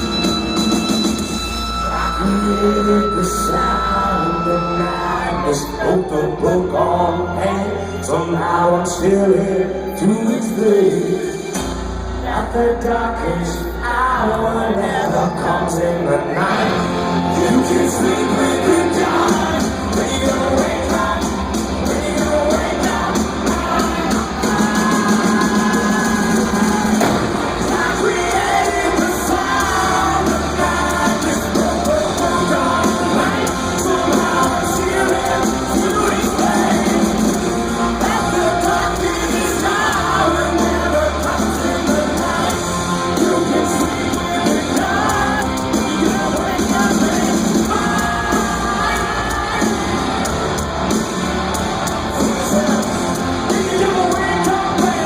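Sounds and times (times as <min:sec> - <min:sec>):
live hard rock band: 0:00.0 - 0:08.2, 0:08.8 - 0:55.0
people singing and yelling: 0:00.0 - 0:55.0.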